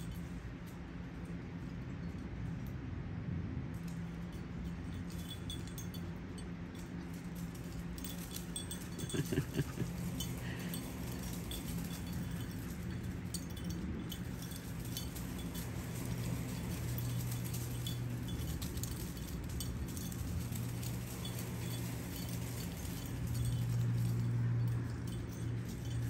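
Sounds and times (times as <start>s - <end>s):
steady low hum: 0.0s - 26.0s
metallic clinks and ticks: 3.7s - 26.0s.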